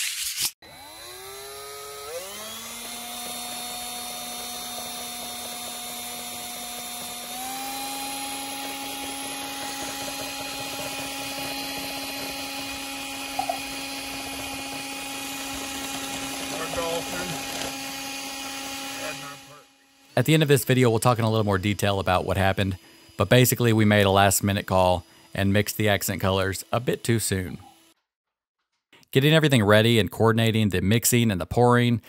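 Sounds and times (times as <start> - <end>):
drill mixer motor whine: 0.6 - 28.0.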